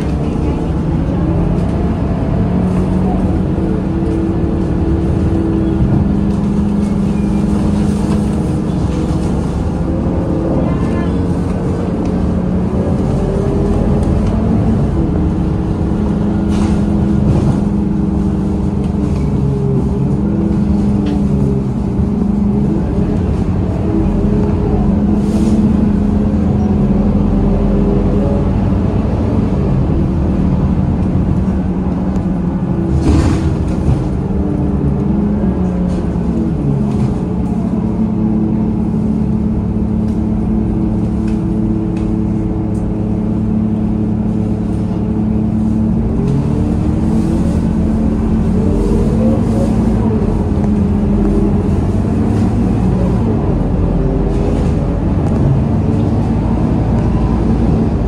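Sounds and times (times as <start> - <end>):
bus diesel engine drone: 0.0 - 58.0
road and tyre rumble: 0.0 - 58.0.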